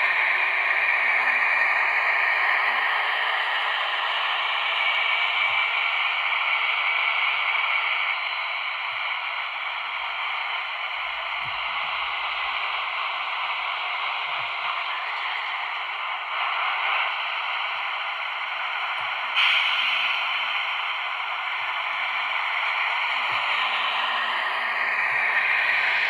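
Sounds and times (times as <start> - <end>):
model locomotive diesel engine sound: 0.0 - 26.0.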